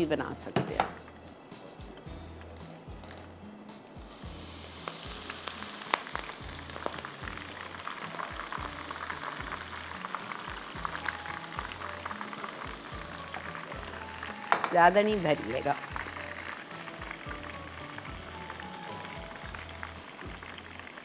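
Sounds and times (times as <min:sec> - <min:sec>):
spinach deep-frying in hot oil: 0:04.0 - 0:21.0.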